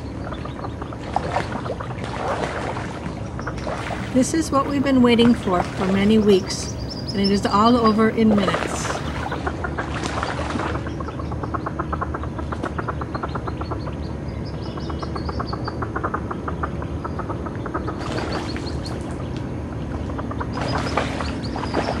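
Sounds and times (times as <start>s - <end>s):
ducklings peeping: 0.0s - 2.5s, 3.4s - 22.0s.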